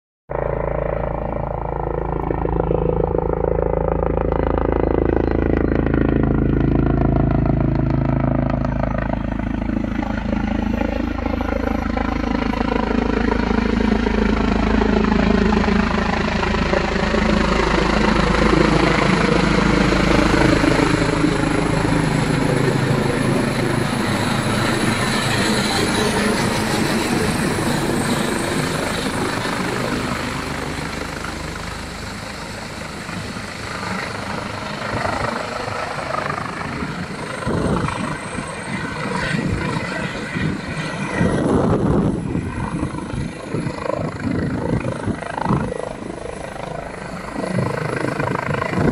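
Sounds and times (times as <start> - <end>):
helicopter flying over: 0.3 - 48.9.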